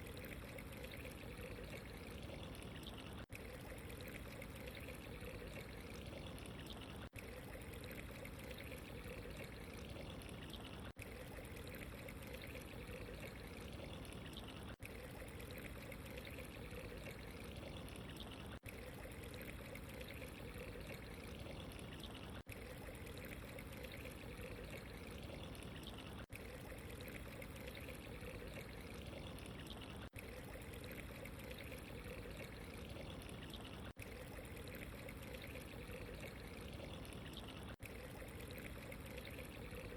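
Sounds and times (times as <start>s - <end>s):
running water pouring and trickling: 0.0s - 39.9s.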